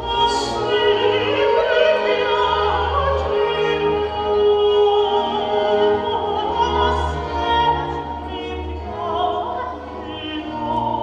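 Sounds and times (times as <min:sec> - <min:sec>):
orchestral classical music: 0:00.0 - 0:11.0.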